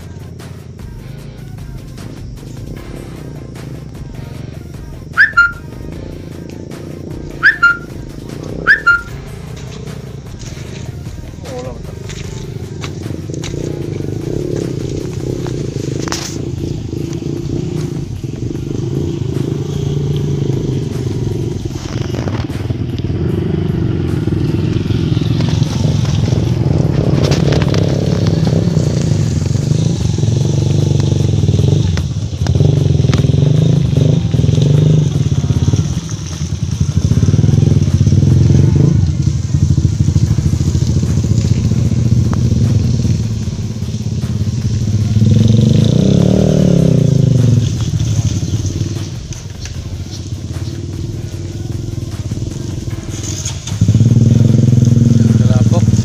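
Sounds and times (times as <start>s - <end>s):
motorcycle engine revving: 0.0s - 56.0s
motorcycle engines running: 0.0s - 56.0s.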